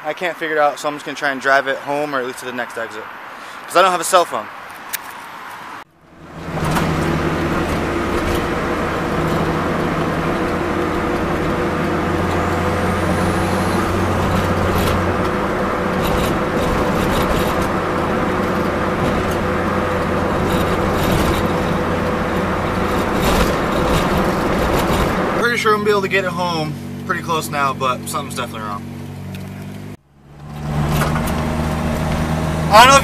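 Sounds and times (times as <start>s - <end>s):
road and wind noise: 0.0s - 33.0s
car engine cruising: 5.2s - 33.0s.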